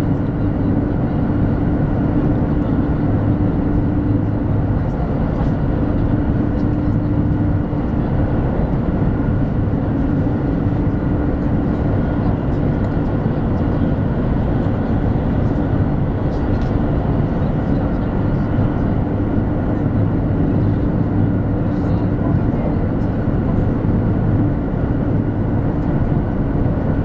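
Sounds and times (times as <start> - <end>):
steady low hum: 0.0 - 27.0
train cabin running noise: 0.0 - 27.0.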